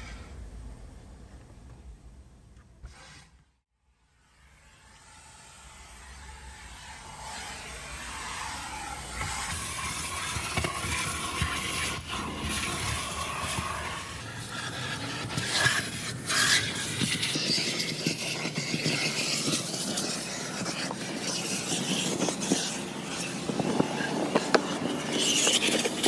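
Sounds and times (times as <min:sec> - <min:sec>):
nozzle scraping over carpet: 0:04.2 - 0:26.0
vacuum hose sucking: 0:04.9 - 0:26.0.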